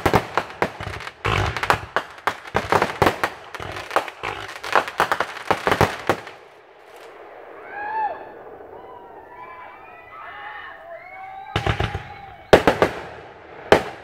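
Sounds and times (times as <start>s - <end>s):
fireworks bangs and crackles: 0.0s - 10.0s, 11.1s - 14.0s.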